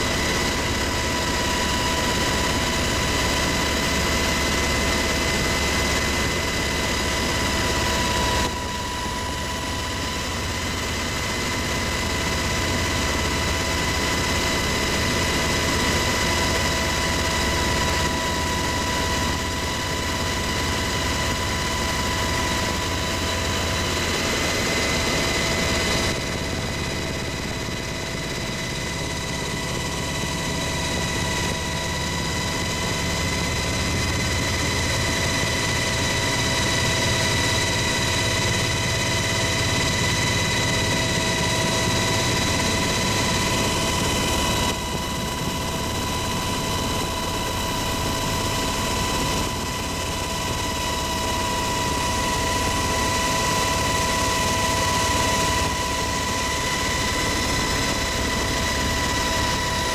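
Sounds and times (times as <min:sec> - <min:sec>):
helicopter rotor and turbine drone: 0:00.0 - 0:59.9.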